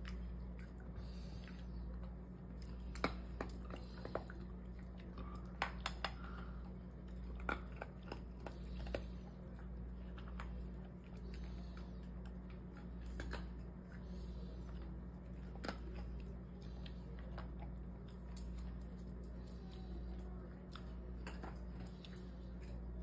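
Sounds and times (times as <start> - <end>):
dog chewing dry kibble: 0.0 - 23.0.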